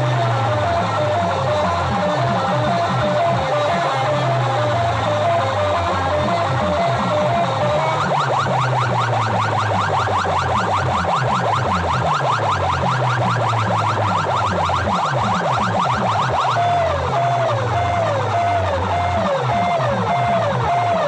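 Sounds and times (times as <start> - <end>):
electronic siren effect: 0.0 - 21.0
heavy bass: 0.0 - 21.0.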